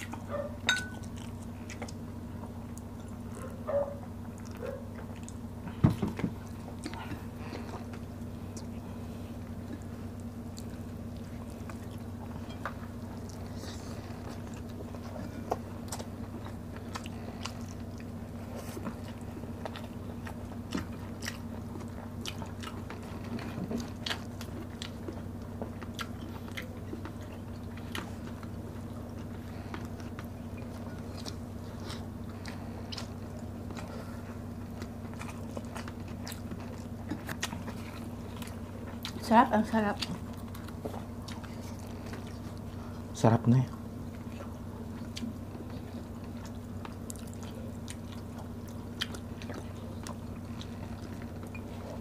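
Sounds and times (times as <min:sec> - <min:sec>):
chewing and mouth clicks: 0:00.0 - 0:52.0
steady low hum: 0:00.0 - 0:52.0.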